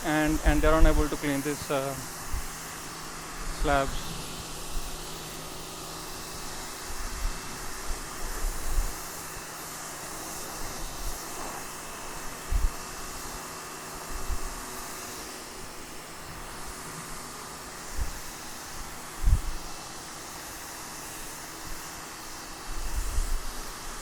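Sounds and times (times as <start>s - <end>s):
faint motor hum: 0.0s - 24.0s
pressure washer jet spraying concrete: 0.0s - 24.0s.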